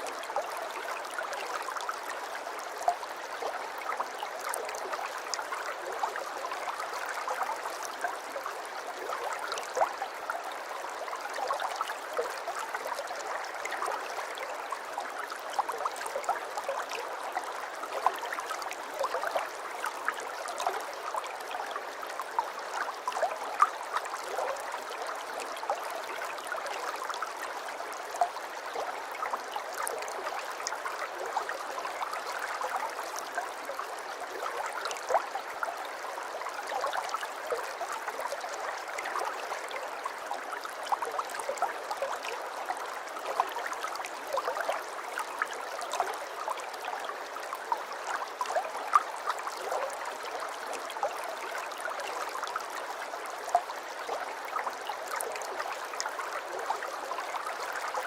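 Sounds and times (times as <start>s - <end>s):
aquarium water trickling and gurgling: 0.0s - 58.0s.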